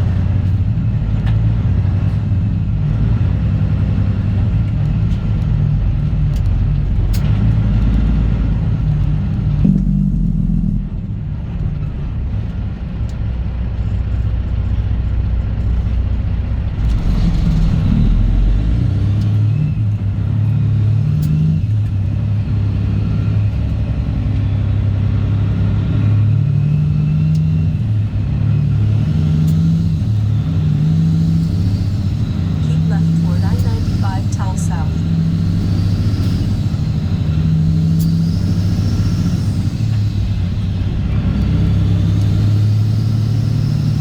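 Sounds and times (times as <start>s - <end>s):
diesel truck engine rumble: 0.0s - 44.0s.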